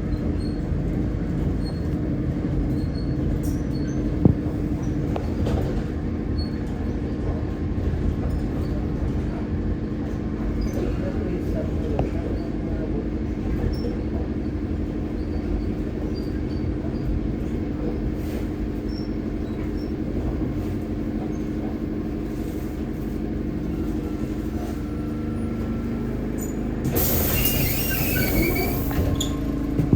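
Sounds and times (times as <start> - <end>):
trolleybus electric hum: 0.0 - 29.9.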